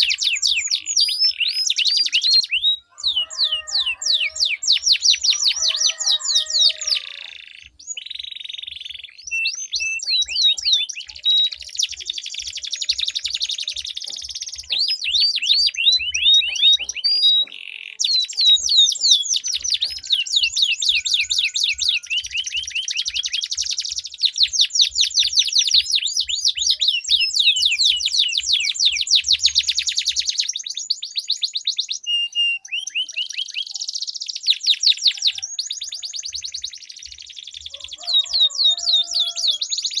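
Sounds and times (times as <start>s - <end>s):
canaries singing rolling trills: 0.0s - 40.0s.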